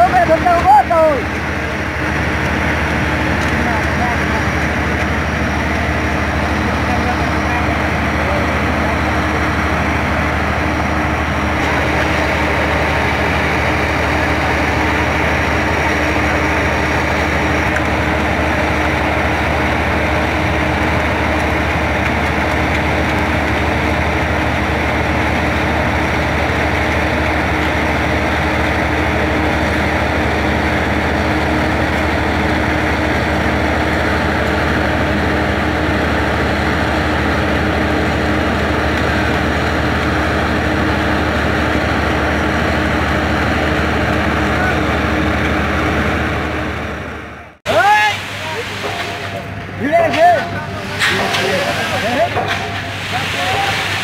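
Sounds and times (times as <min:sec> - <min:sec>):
machine engine droning: 0:00.0 - 0:54.0.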